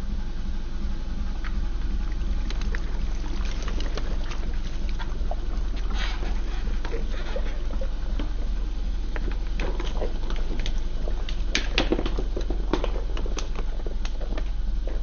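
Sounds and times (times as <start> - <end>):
steady low hum: 0.0 - 15.0
plastic cups crackling under tyre: 1.5 - 15.0.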